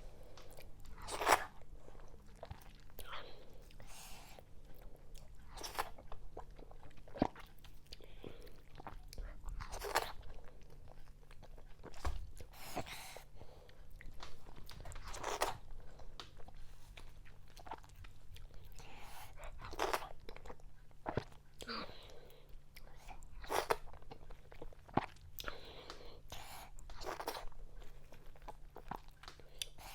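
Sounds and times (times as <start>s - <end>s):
chewing and wet mouth sounds: 0.0s - 29.9s.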